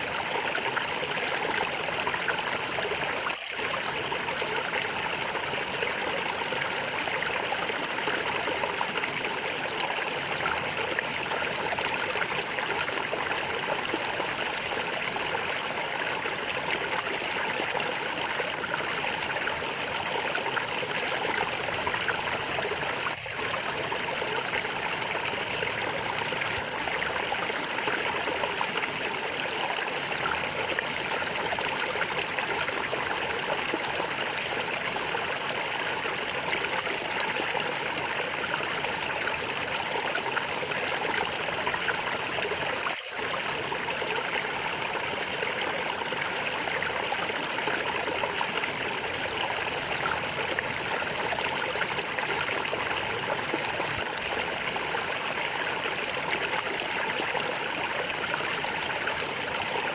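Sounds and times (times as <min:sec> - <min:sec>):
stream water gurgling: 0:00.0 - 0:59.9.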